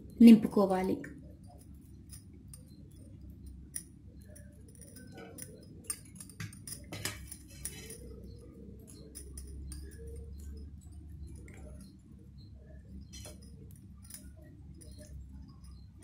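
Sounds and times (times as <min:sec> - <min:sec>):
clicks and taps against steel bowls: 0:01.0 - 0:12.0, 0:12.7 - 0:16.0.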